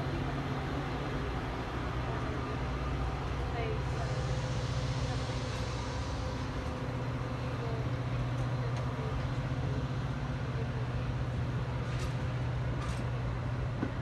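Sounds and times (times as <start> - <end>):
diesel locomotive droning: 0.0 - 14.0.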